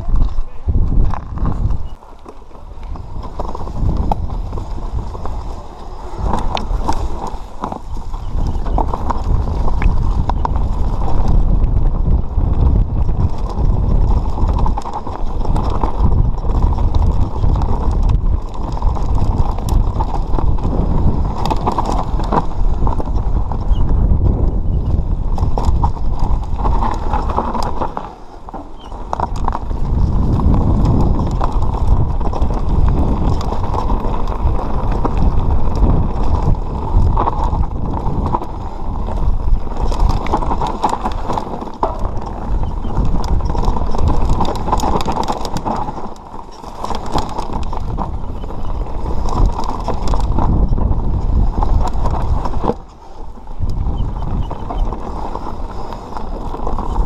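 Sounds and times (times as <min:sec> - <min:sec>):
bike rattling and knocking: 0:00.0 - 0:57.0
tyres rumbling on dirt: 0:00.0 - 0:57.0
wind on microphone: 0:00.0 - 0:57.0.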